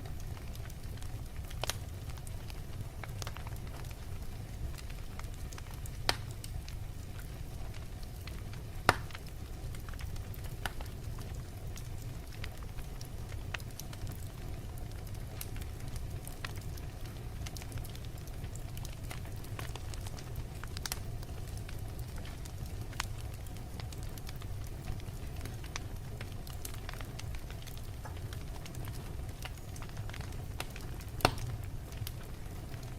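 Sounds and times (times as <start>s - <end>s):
wood fire crackling: 0.0s - 32.9s
fire pops: 0.1s - 32.9s.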